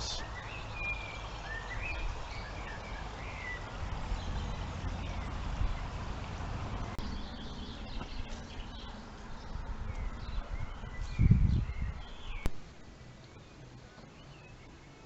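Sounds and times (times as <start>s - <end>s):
small birds chirping: 0.0s - 6.1s, 6.8s - 12.6s, 13.2s - 15.0s.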